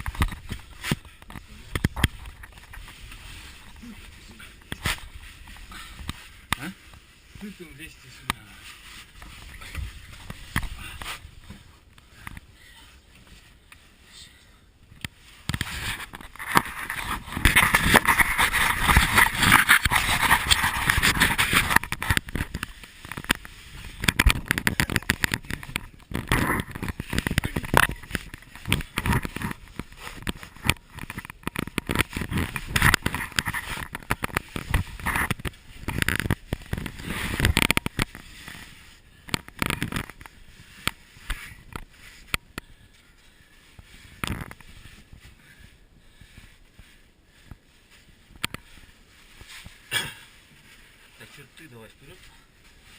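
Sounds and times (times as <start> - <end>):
clothing scraping against rock: 0.0 - 14.0, 15.1 - 52.9.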